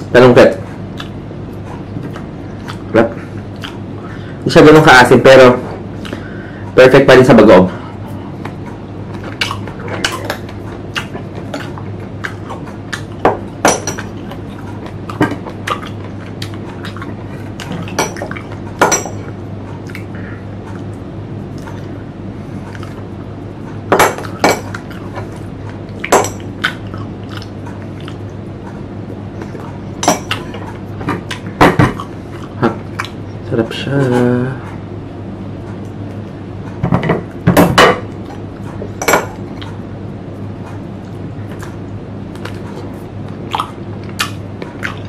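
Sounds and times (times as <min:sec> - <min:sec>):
chewing crunchy fruit: 0:00.6 - 0:04.2, 0:08.0 - 0:34.4, 0:38.1 - 0:45.0.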